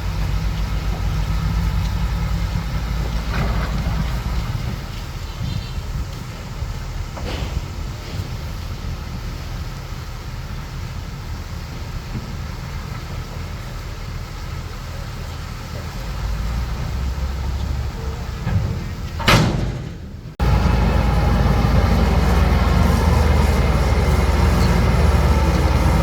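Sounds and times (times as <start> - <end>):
diesel engine low rumble: 0.0 - 26.0.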